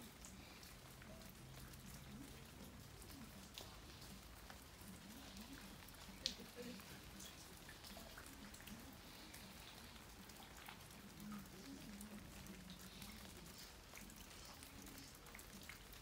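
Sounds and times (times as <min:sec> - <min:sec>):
light rain on foliage: 0:00.0 - 0:16.0.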